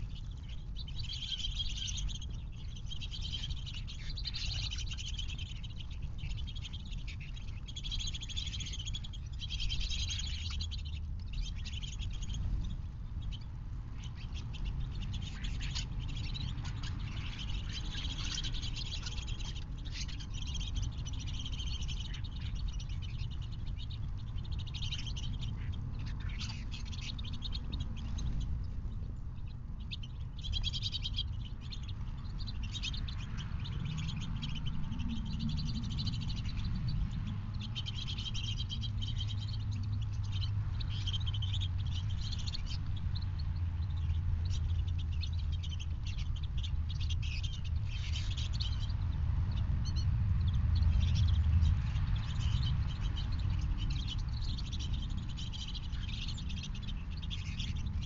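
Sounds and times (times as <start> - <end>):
low rumble: 0.0 - 58.0
songbirds chirping and twittering: 0.0 - 58.0.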